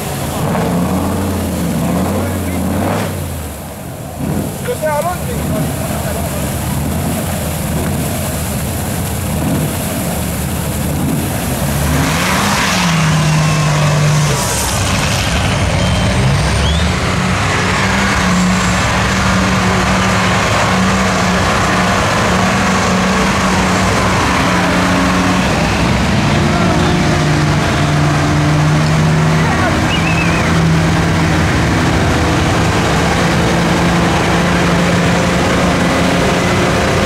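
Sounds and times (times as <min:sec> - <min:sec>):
truck engines running under load: 0:00.0 - 0:37.0.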